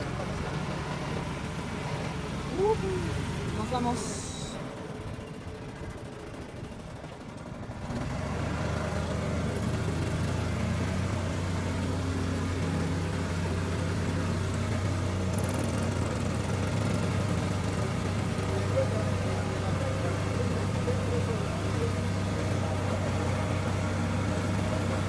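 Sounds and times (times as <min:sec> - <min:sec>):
boat motor droning: 0:00.0 - 0:25.0.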